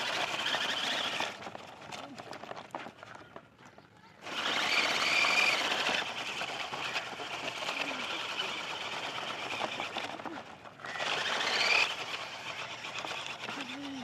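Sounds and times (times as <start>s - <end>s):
toy tractor motor whirring: 0.0s - 3.1s, 4.1s - 14.0s.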